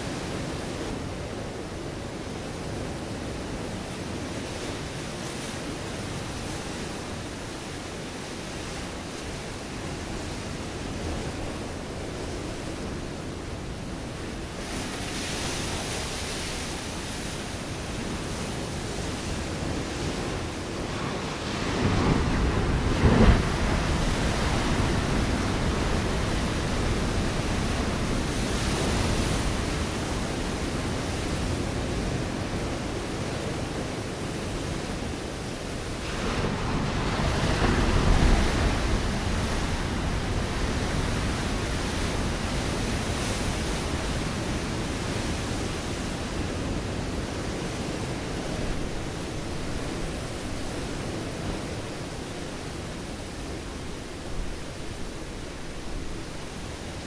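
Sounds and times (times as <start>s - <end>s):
surf on rocky shore: 0.0s - 57.0s.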